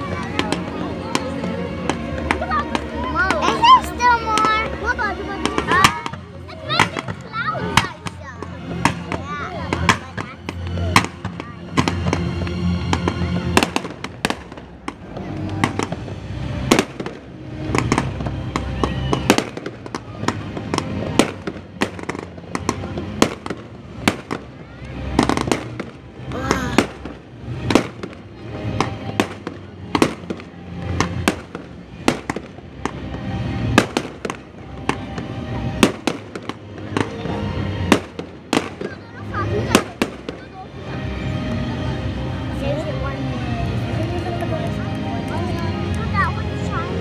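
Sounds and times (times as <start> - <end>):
fireworks bangs: 0.0 - 40.6
music playing: 0.0 - 47.0.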